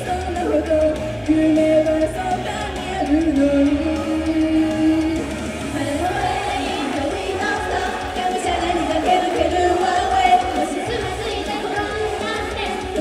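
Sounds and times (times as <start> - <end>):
pop band backing: 0.0 - 13.0
woman singing: 0.0 - 13.0.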